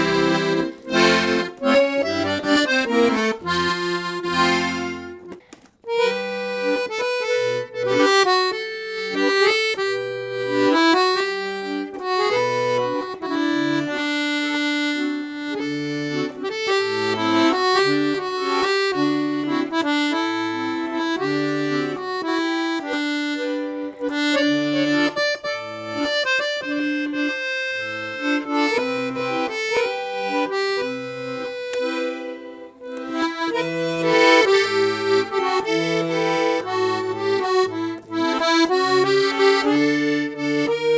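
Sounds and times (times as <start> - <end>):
accordion playing a tune: 0.0 - 40.9.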